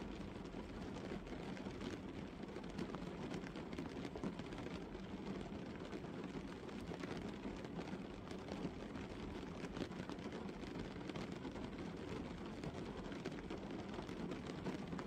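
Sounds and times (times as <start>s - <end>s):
rain on a car: 0.0s - 15.0s.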